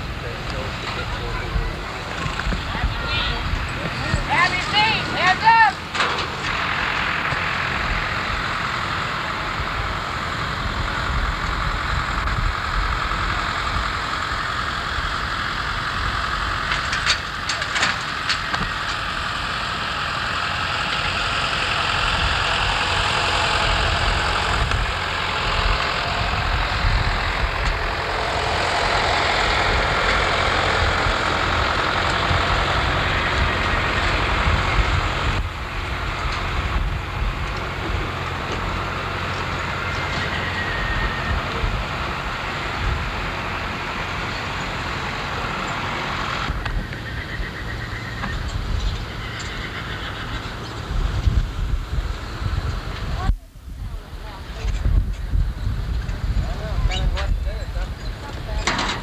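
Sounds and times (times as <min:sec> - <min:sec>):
low vehicle rumble with hiss: 0:00.0 - 0:59.0.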